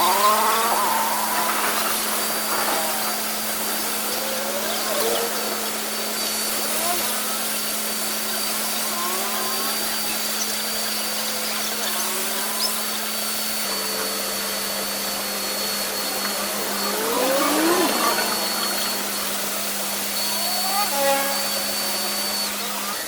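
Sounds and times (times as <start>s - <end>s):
power tool motor whining: 0.0s - 23.0s.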